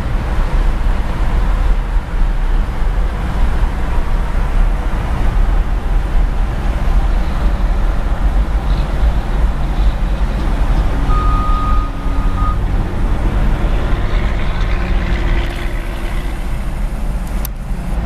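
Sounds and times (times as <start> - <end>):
wheel loader diesel engine rumble: 0.0 - 18.0.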